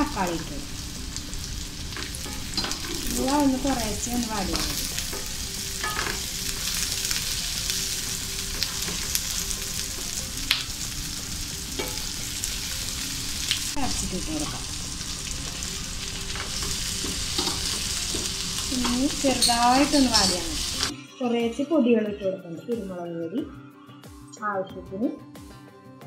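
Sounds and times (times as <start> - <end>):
vegetables sizzling in oil: 0.0 - 20.9.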